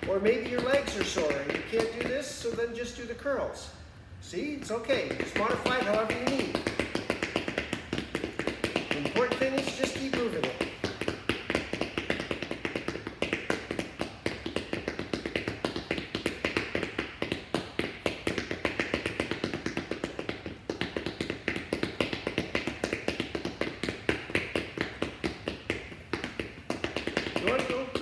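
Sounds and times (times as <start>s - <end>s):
shoes tapping on tile floor: 0.0s - 3.7s, 4.3s - 28.0s.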